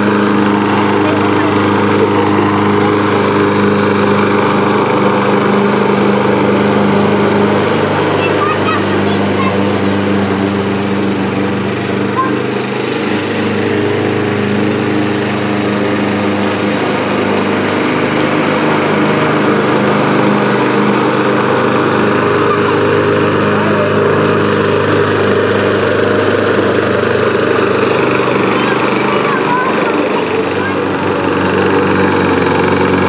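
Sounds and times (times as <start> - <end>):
push mower engine running: 0.0 - 33.0.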